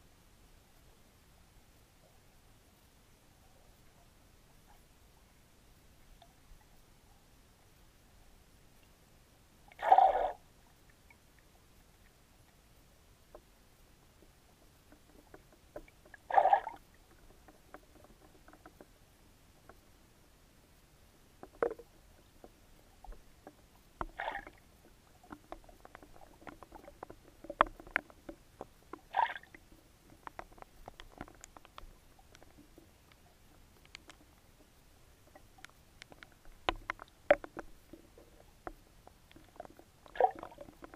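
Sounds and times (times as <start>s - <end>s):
small underwater clicks and ticks: 0.3s - 40.9s.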